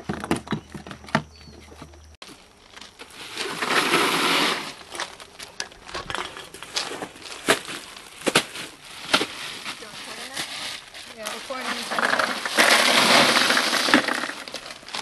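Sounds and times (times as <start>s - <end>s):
crunching rustle: 2.2s - 15.0s.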